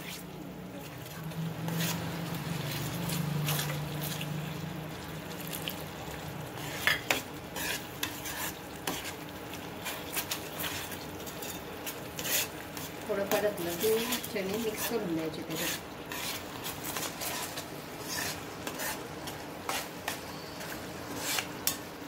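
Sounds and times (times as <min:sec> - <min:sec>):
spatula scraping through sauce: 0:01.0 - 0:04.6, 0:05.5 - 0:21.8.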